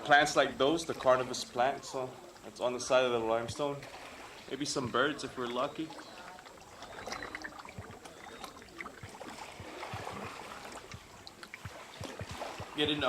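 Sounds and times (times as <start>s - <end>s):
paddles dipping in water: 0.0s - 13.0s
water trickling and splashing: 0.0s - 13.0s.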